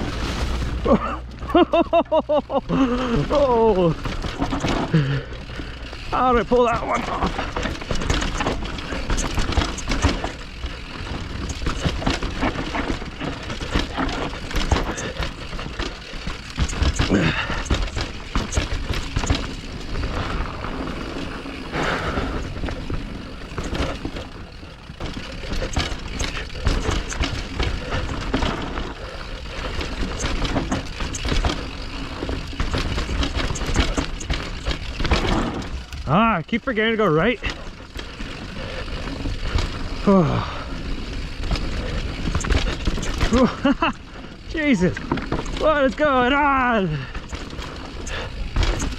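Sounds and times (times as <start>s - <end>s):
bike clattering over bumps: 0.0s - 48.9s
bike tyre noise: 0.0s - 48.9s.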